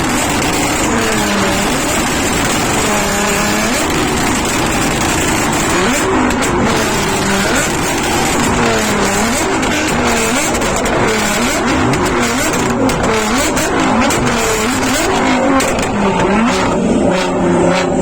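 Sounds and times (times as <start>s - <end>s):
car engine revving: 0.0s - 18.0s
exhaust pops: 0.0s - 18.0s.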